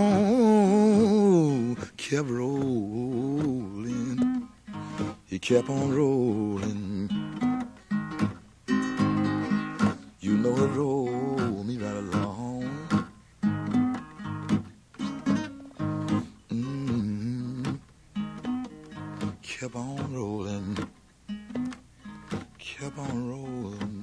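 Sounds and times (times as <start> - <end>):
blues guitar with bent notes: 0.0 - 24.0.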